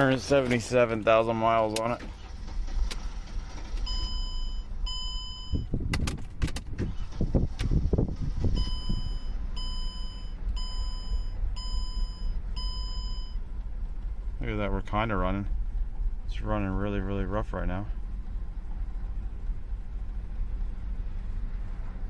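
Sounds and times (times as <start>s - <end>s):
car engine cranking and idling roughly: 0.0s - 22.0s.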